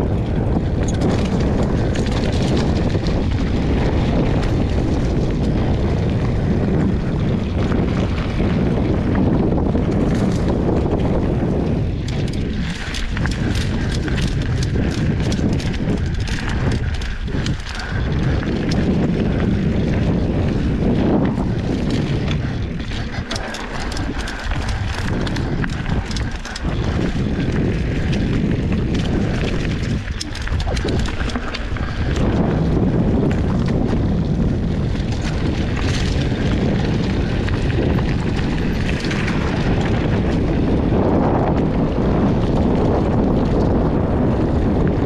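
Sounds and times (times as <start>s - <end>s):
bike clicks and rattles: 0.0s - 45.0s
tyres rumbling on dirt: 0.0s - 45.0s
wind buffeting microphone: 0.0s - 45.0s.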